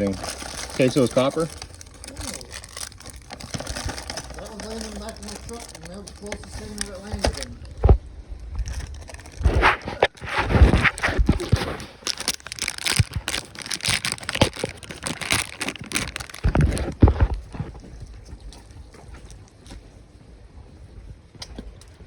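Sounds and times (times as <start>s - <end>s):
rustling and crinkling: 0.0s - 22.0s.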